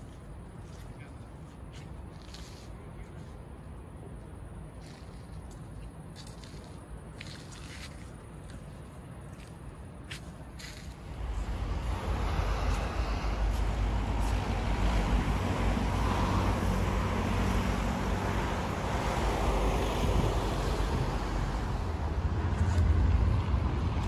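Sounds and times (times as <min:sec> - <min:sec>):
road traffic: 0:00.0 - 0:24.0
wind rumble on microphone: 0:02.0 - 0:24.0.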